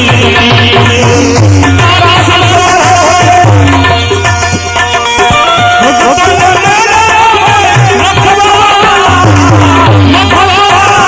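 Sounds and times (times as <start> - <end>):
hand drum beats: 0.0 - 11.0.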